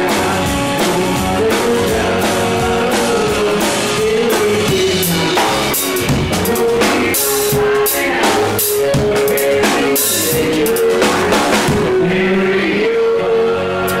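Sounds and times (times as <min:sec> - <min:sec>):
drum kit with cymbals: 0:00.0 - 0:12.4
live country-rock band: 0:00.0 - 0:14.0.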